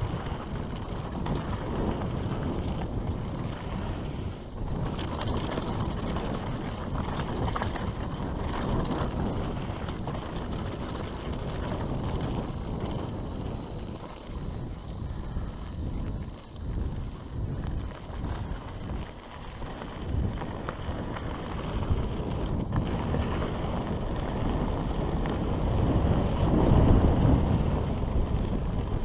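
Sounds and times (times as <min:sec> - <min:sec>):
bike chain and frame rattling: 0:00.0 - 0:29.0
tyres on dirt and rocks: 0:00.0 - 0:29.0
wind buffeting microphone: 0:00.0 - 0:29.0.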